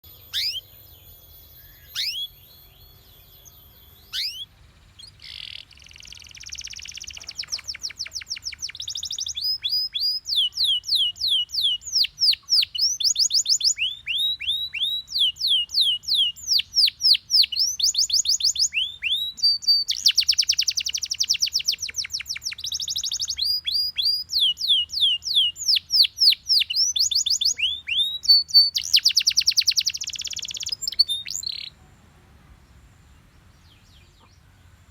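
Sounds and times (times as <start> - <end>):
canary singing trills: 0.0 - 31.8.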